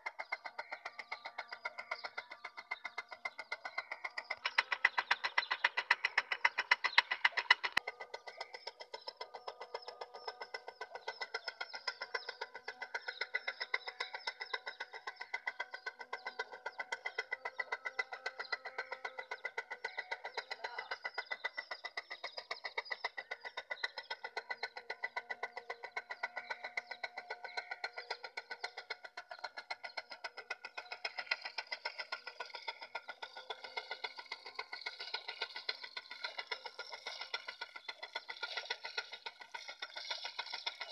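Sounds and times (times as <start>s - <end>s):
motor whining and ticking: 0.0s - 40.9s.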